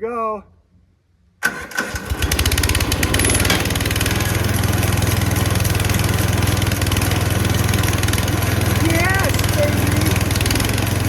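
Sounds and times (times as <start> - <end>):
gas engine running: 1.4 - 11.0.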